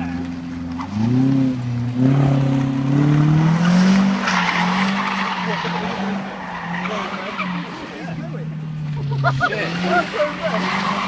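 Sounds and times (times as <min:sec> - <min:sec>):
car engine at high revs: 0:00.0 - 0:11.0
tyres skidding and squealing: 0:00.0 - 0:11.0.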